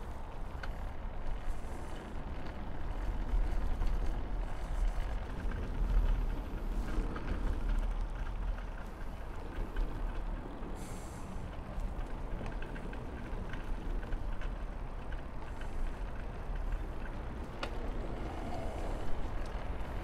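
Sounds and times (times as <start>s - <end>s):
bicycle tyre rumble: 0.0s - 20.0s.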